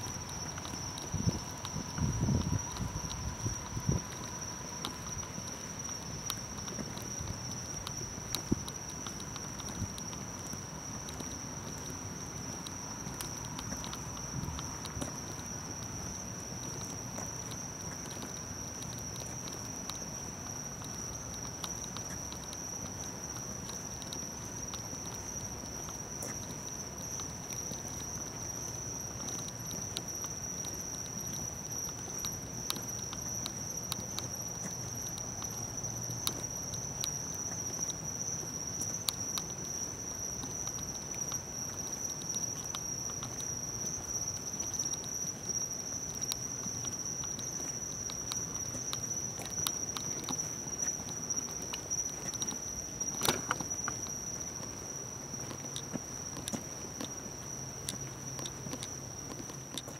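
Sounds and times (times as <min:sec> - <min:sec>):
light ticks and clicks: 0:00.0 - 0:59.9.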